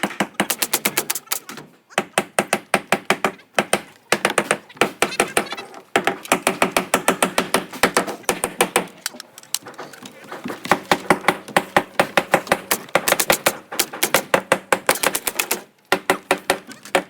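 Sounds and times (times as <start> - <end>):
nail gun firing: 0.0 - 9.7, 10.6 - 17.0.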